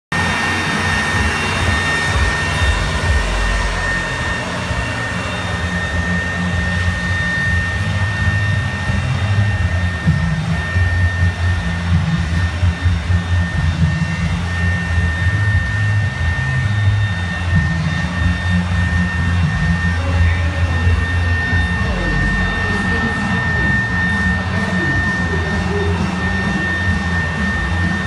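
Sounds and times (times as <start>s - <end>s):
air blower drone with whine: 0.1s - 28.0s.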